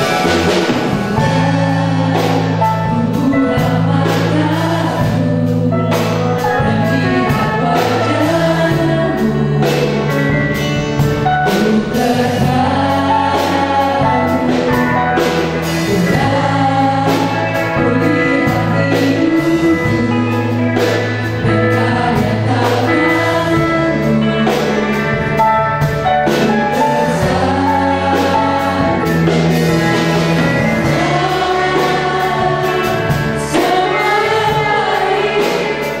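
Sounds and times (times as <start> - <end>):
sustained keyboard chords: 0.0 - 36.0
woman singing lead vocal: 0.0 - 36.0
women backing vocals: 0.0 - 36.0.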